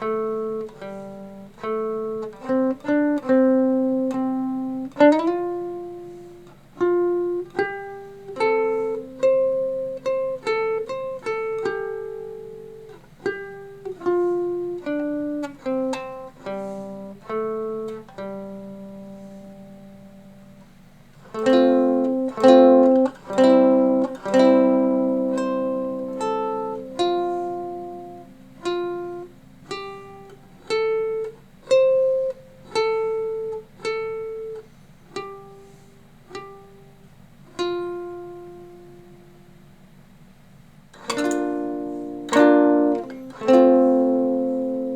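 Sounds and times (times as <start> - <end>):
plucked string instrument: 0.0 - 39.8, 40.9 - 44.9
faint low hum: 0.0 - 44.9
strummed chords: 0.0 - 44.9.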